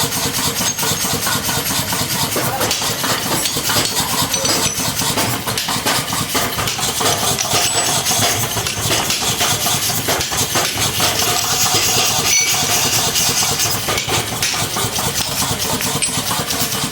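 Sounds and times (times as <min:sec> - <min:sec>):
engine running with rapid clatter: 0:00.0 - 0:16.9.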